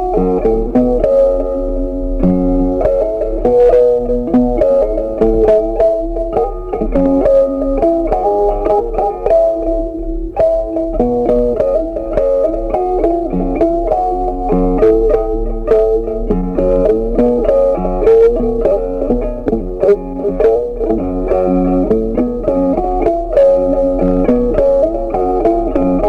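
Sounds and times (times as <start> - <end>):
plucked guitar melody with bass: 0.0 - 26.0.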